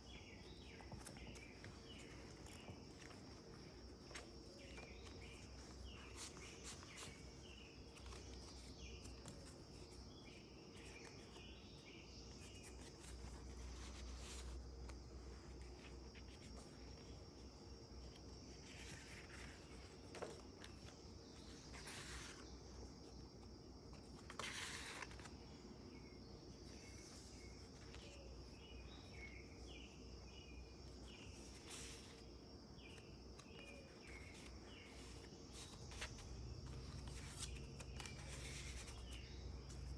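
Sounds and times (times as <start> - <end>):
pages rustling: 0.0 - 39.9
small birds chirping: 0.0 - 39.9.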